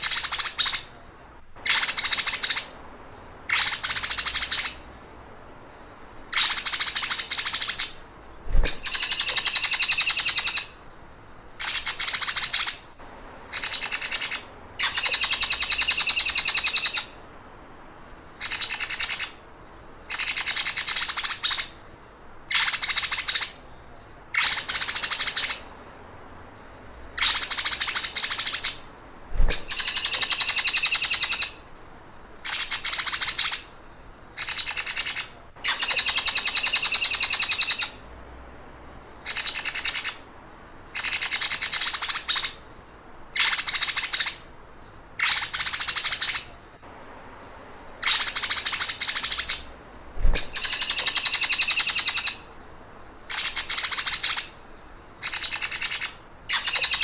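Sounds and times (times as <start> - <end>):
songbird buzzy ticking trill: 0.0 - 57.0.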